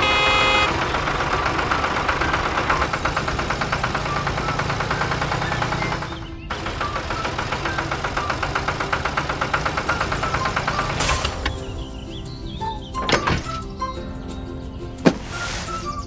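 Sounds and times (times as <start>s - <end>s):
small engine chugging: 0.0s - 13.7s.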